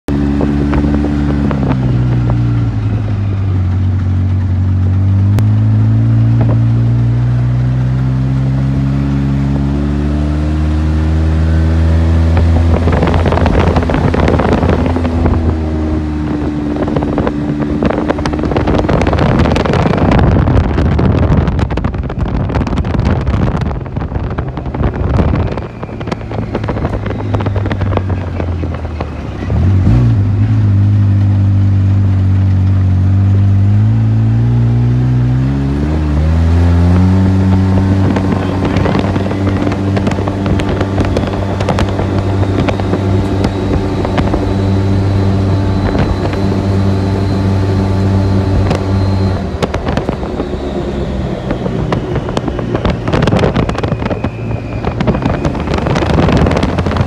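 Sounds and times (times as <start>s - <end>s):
utility vehicle engine running: 0.1s - 57.0s
wind: 0.1s - 57.0s.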